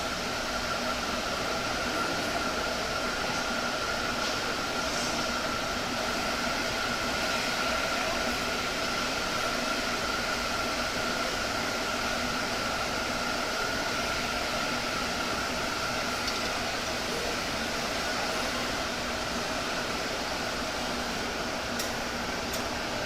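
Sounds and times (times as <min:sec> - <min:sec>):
fan-like machine whir: 0:00.0 - 0:23.0.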